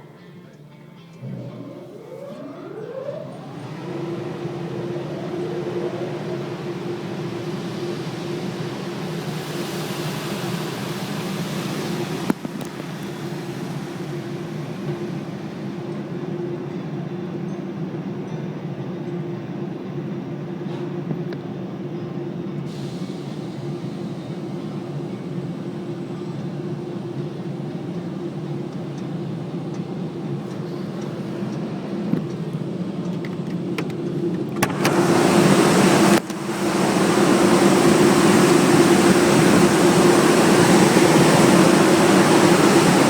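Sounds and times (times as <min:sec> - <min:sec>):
car wash machinery drone: 0:01.0 - 0:43.0.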